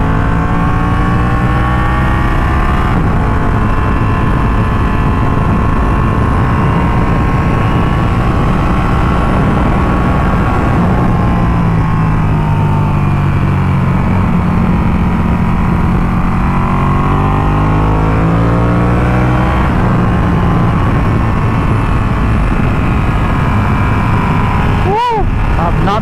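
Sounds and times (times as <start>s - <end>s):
motorcycle engine: 0.0s - 26.0s.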